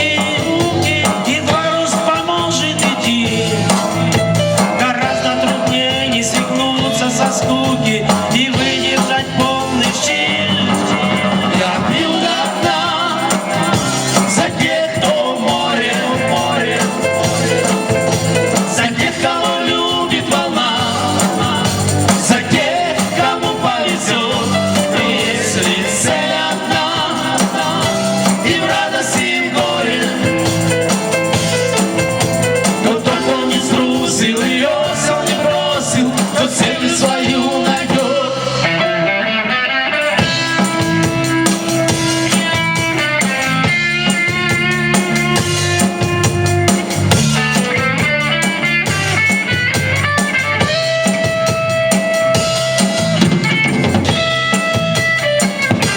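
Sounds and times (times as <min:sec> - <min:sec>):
band playing pop-rock: 0:00.0 - 0:55.9.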